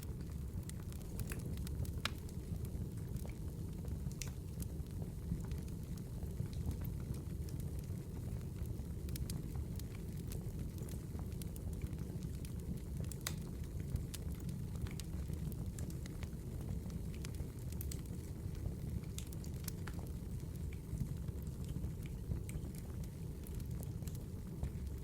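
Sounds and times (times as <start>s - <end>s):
low rumble of fire: 0.0s - 25.0s
firewood crackling: 0.1s - 25.0s.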